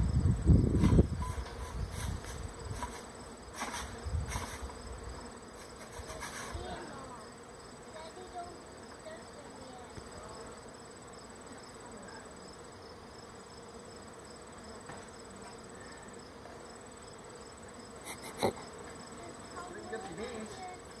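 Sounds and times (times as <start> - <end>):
bee swarm buzzing: 0.0 - 21.0.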